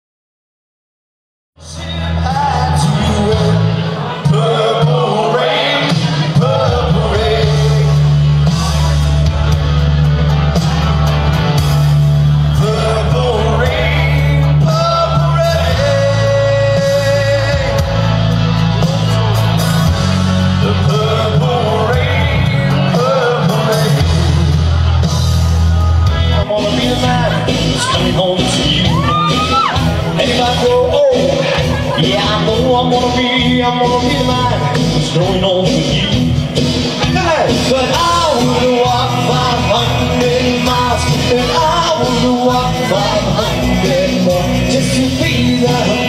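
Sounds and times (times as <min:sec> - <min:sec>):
held bass notes: 0:01.6 - 0:46.0
sung melody: 0:01.6 - 0:46.0.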